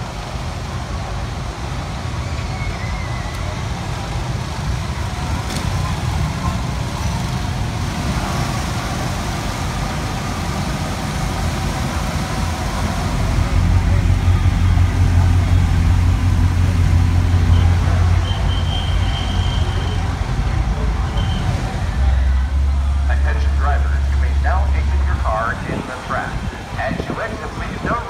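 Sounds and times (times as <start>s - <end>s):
faint crowd chatter: 0.0s - 8.4s, 9.5s - 28.0s
low car engine rumble: 0.0s - 28.0s.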